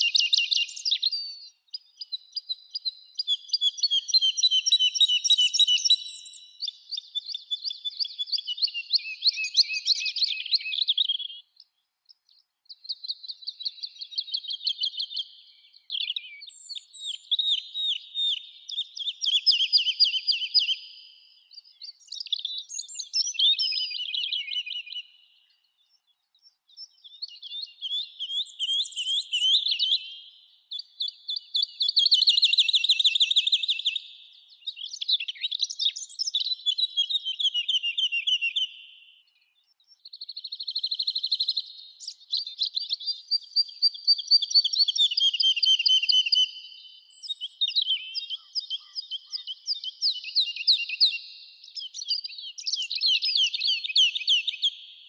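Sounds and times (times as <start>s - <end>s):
songbirds singing trilled phrases: 0.0s - 55.0s.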